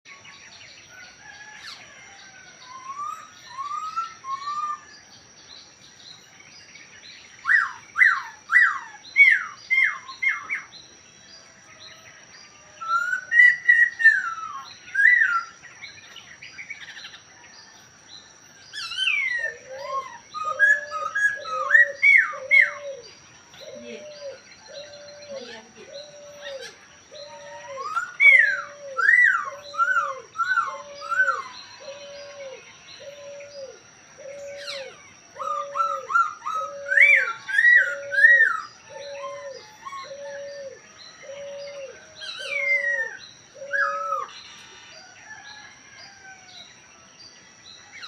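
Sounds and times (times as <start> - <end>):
bird singing whistled notes: 0.1 - 11.0, 11.9 - 17.2, 18.5 - 46.2.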